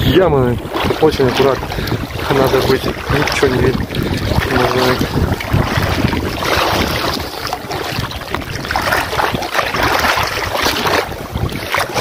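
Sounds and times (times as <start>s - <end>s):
water splashing around legs: 0.0s - 12.0s
wind rumbling on microphone: 0.0s - 12.0s.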